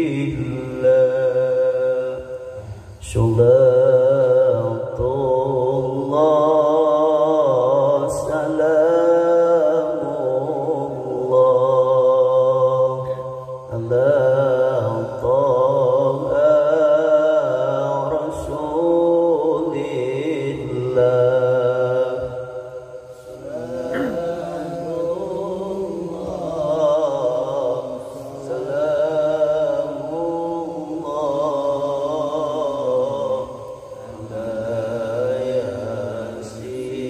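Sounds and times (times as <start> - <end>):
man chanting melody: 0.0 - 37.0.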